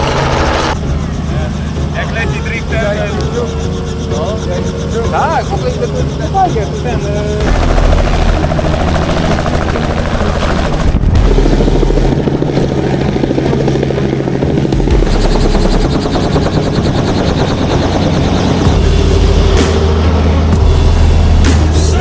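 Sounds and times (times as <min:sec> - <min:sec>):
loud engine running: 0:00.0 - 0:22.0.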